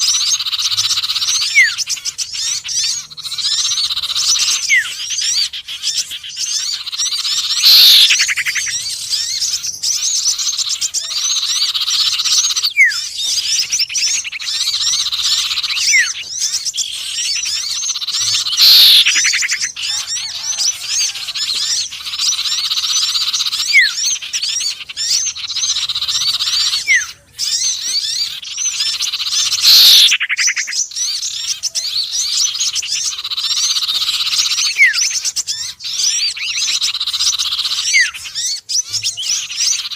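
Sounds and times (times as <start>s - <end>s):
loud falling bird call: 0.0s - 39.9s
songbirds twittering: 0.0s - 39.9s.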